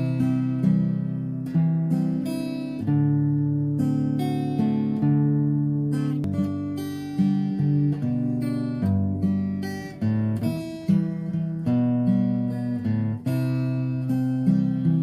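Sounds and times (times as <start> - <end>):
acoustic guitar playing calm music: 0.0 - 15.0.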